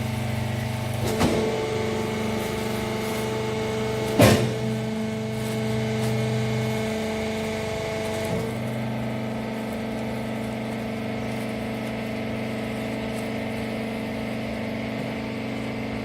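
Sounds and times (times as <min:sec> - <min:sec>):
baler machine motor humming: 0:00.0 - 0:16.0.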